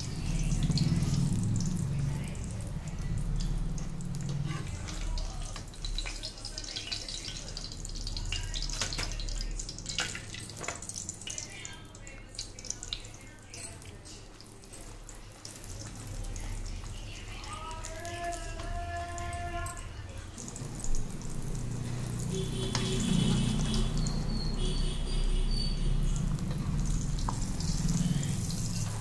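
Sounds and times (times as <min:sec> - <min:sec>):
bread deep-frying and sizzling: 0:00.0 - 0:29.0.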